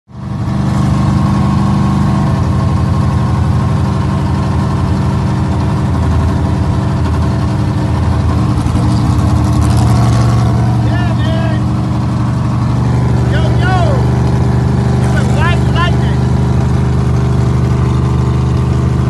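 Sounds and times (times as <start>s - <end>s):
race car engine pulsing idle: 0.1s - 19.0s.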